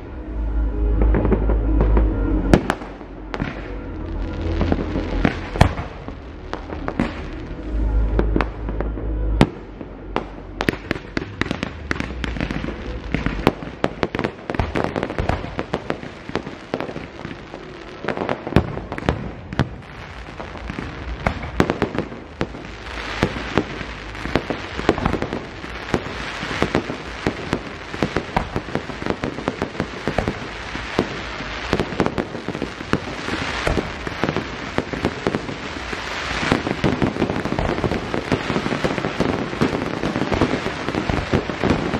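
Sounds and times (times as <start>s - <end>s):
fireworks popping and banging: 1.0s - 9.6s, 10.2s - 41.9s.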